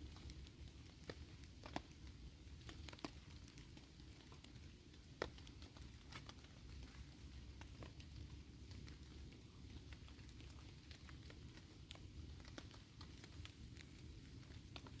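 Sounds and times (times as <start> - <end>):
raindrops pattering on a tarp: 0.0 - 15.0.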